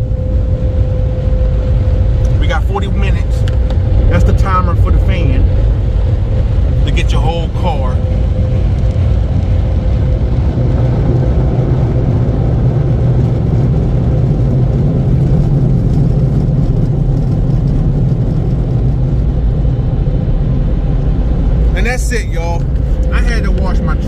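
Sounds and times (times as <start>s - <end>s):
car wash dryer blowers: 0.0s - 24.0s.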